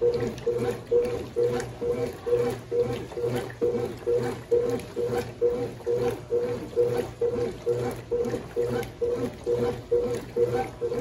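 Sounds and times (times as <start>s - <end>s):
towels churning in sudsy water: 0.0s - 11.0s
washing machine agitating: 0.0s - 11.0s.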